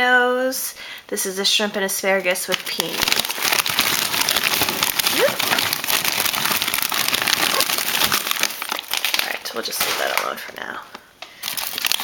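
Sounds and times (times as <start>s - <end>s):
plastic packaging crinkling: 2.4s - 12.0s.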